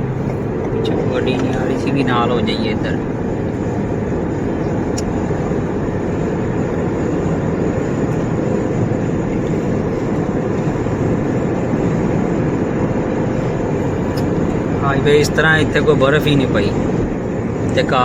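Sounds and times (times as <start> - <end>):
road and tyre noise in car: 0.0 - 18.0.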